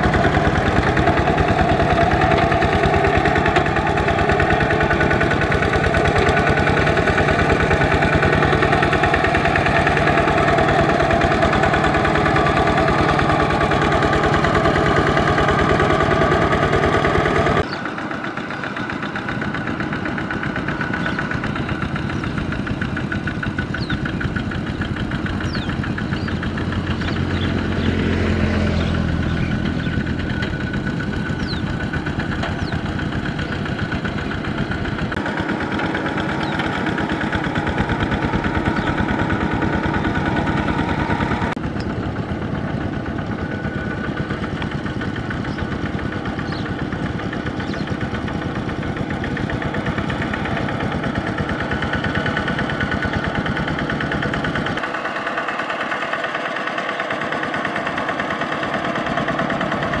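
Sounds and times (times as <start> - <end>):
diesel tractor engine running: 0.0 - 60.0.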